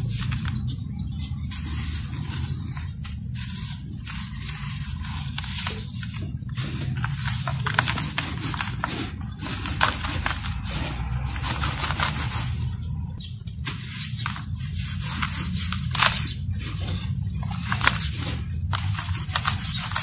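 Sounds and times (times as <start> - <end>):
hands crumbling dry powder: 0.0 - 20.0
steady low hum: 0.0 - 20.0.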